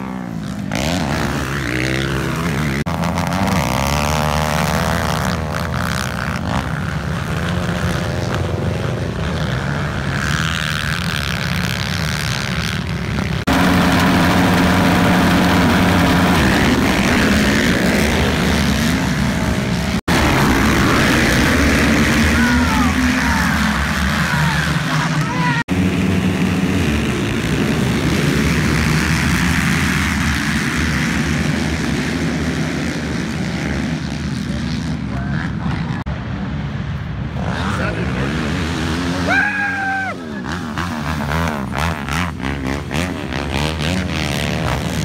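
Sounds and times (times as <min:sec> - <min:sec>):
quad engines revving: 0:00.0 - 0:36.5, 0:37.2 - 0:45.0.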